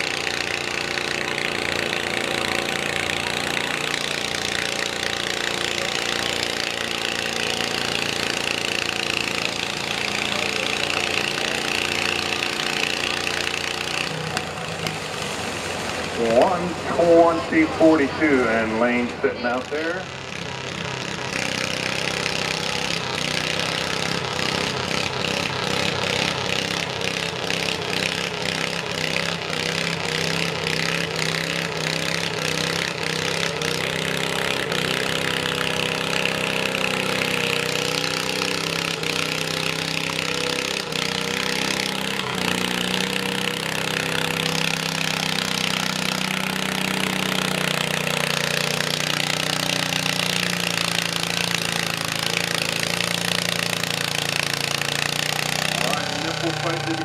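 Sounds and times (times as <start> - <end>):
garden tractor engine under load: 0.0 - 57.0.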